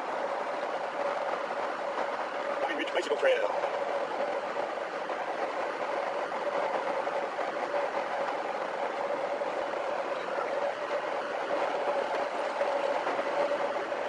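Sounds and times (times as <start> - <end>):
motorhome engine: 0.0 - 14.0
road noise: 0.0 - 14.0.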